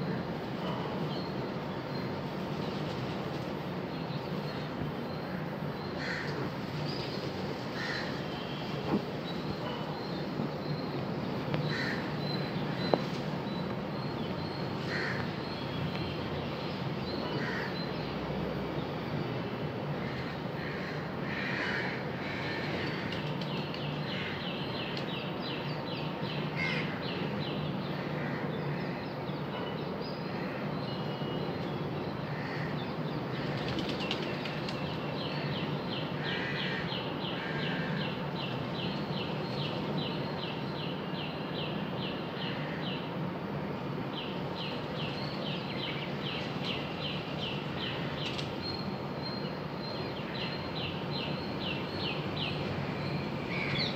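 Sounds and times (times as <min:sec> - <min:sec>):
steady background hum: 0:00.0 - 0:53.9.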